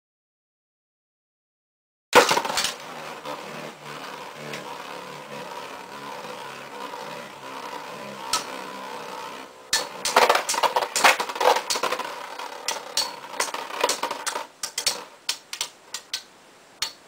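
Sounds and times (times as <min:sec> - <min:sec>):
spinning tops whirring: 0:02.2 - 0:17.0
tops colliding with clatter: 0:02.2 - 0:17.0.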